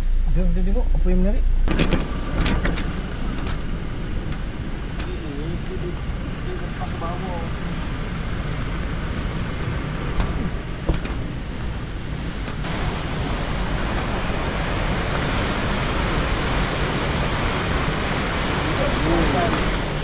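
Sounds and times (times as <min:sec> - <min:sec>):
low rumble: 0:00.0 - 0:20.0
river water rushing: 0:02.0 - 0:20.0.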